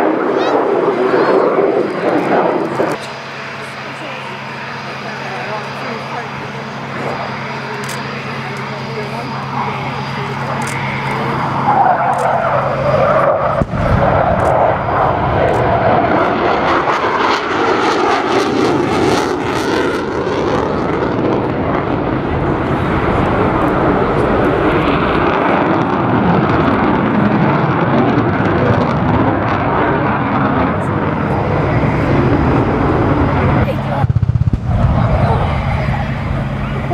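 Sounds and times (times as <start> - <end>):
jet engine roar: 0.0 - 36.9.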